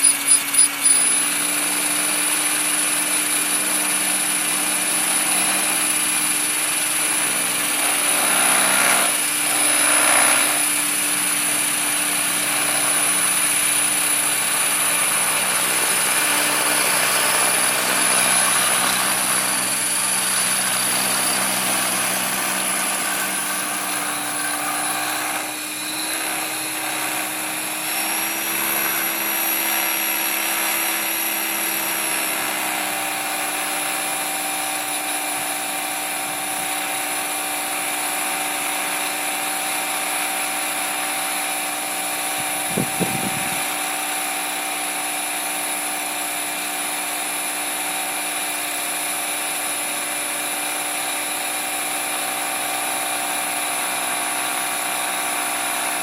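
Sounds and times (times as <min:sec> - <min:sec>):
rc helicopter motor whine: 0:00.0 - 0:56.0.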